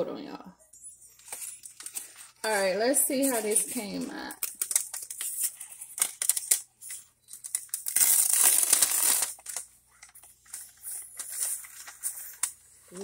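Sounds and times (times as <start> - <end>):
paper towel crinkling and tearing: 1.1 - 13.0.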